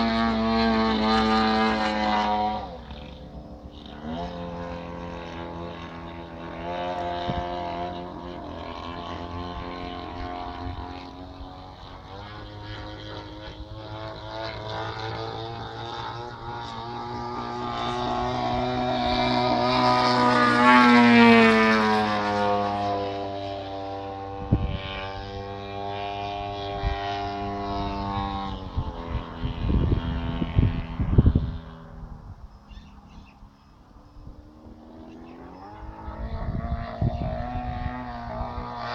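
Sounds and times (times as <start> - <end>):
model airplane engine drone: 0.0 - 38.9.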